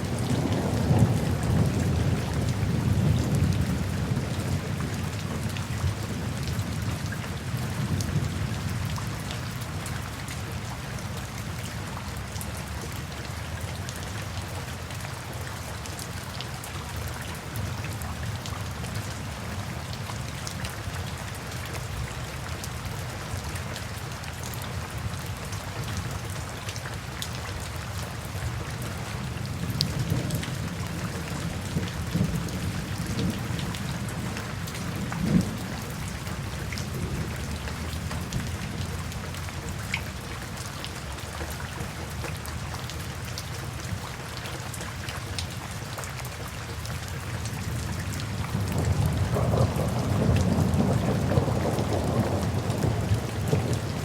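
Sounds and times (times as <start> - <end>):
rain drops hitting a surface: 0.0 - 54.0
steady rain hiss: 0.0 - 54.0.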